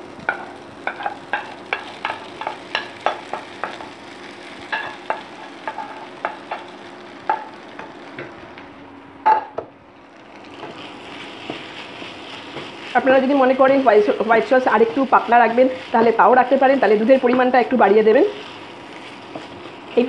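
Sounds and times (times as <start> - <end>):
pan sizzling: 0.0 - 20.0.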